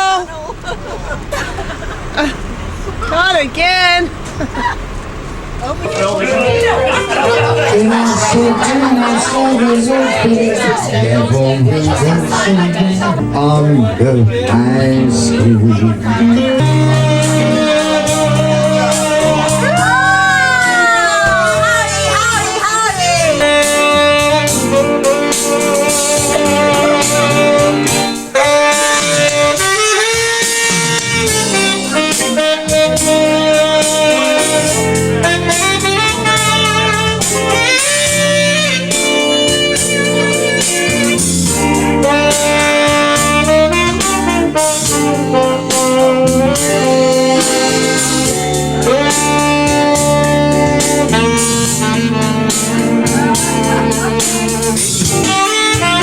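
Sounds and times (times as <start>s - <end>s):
guitar: 0.0s - 56.0s
saxophone-like lead: 5.6s - 56.0s
steady drum beat: 5.8s - 56.0s.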